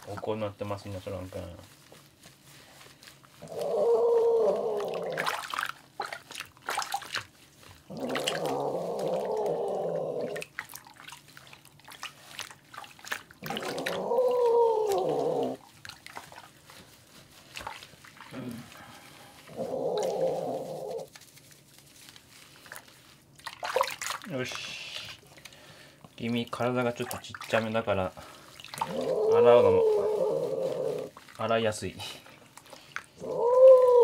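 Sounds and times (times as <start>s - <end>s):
water splashing: 4.5s - 21.1s, 22.6s - 25.5s, 26.2s - 34.0s.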